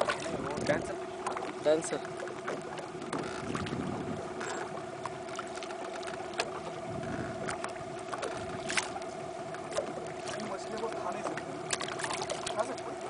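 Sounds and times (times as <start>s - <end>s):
boat motor humming: 0.0s - 13.0s
water washing against hull: 0.0s - 13.0s.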